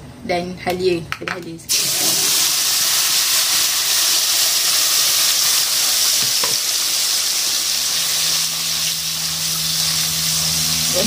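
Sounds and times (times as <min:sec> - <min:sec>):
chilli paste sizzling in oil: 0:01.7 - 0:11.0.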